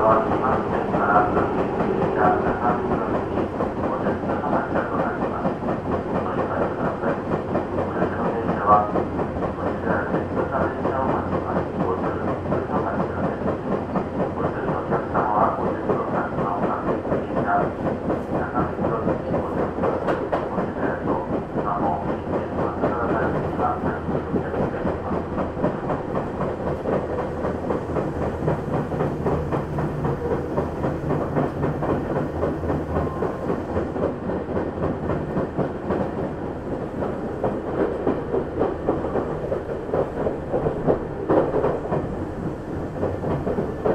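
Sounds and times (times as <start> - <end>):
electric train running: 0.0 - 43.9.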